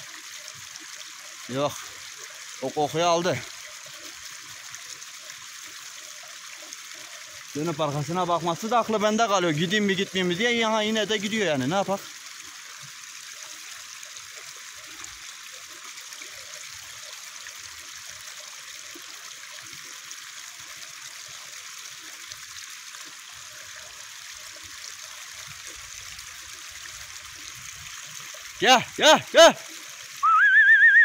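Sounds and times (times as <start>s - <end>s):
running water: 0.0s - 31.0s.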